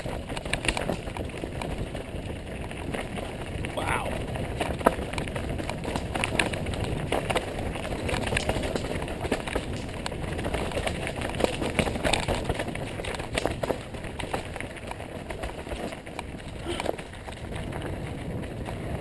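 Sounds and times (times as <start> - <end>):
bike clattering over rocks: 0.0 - 19.0
tyres rumbling over rock and dirt: 0.0 - 19.0.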